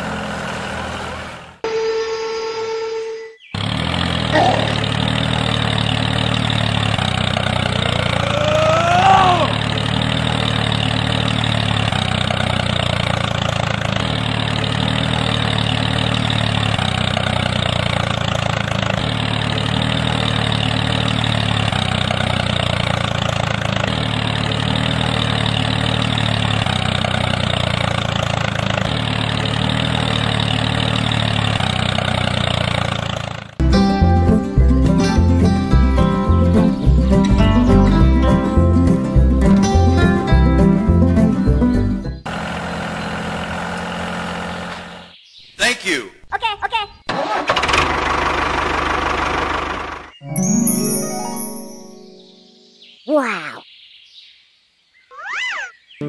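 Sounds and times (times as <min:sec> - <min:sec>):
tractor engine running: 0:00.0 - 0:01.6, 0:03.5 - 0:45.2, 0:47.1 - 0:50.2.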